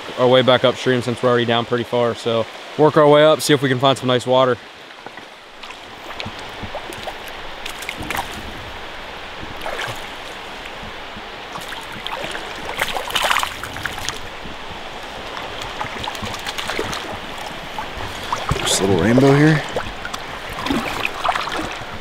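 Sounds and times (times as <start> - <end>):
stream running over rocks: 0.0 - 22.0
short water splashes: 3.7 - 22.0.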